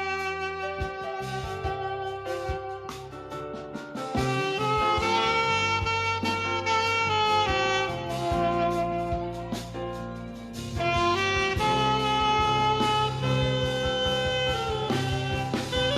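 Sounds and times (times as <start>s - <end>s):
backing track with bass and percussion: 0.0s - 15.9s
saxophone melody: 0.0s - 15.9s.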